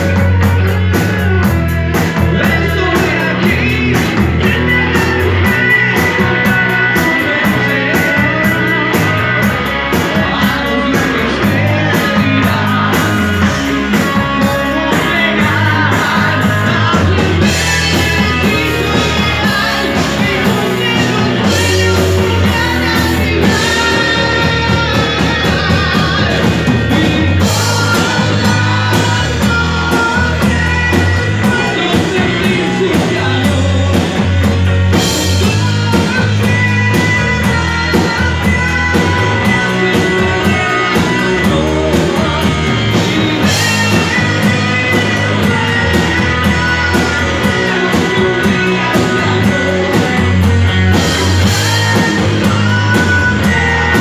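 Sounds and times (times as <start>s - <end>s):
live rock band playing: 0.0s - 54.0s
man singing lead vocals: 0.0s - 54.0s.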